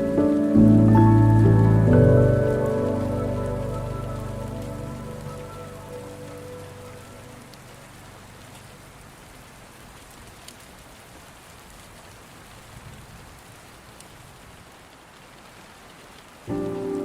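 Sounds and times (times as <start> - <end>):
sharp raindrop ticks: 0.0 - 17.0
steady rain hiss: 0.0 - 17.0.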